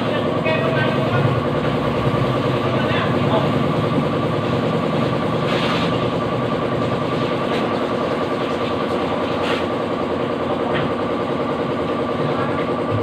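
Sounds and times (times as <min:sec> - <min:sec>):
machine motor droning: 0:00.0 - 0:13.0.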